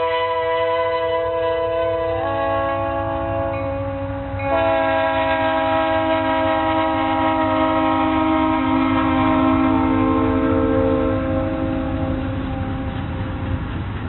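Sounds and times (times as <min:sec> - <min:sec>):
locomotive air horn chord: 0:00.0 - 0:13.0
low train rumble: 0:00.0 - 0:14.0.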